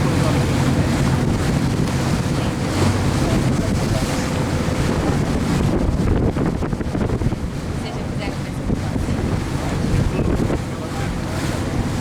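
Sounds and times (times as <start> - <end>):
boat engine running: 0.0 - 12.0
rushing water: 0.0 - 12.0
wind buffeting microphone: 0.0 - 12.0.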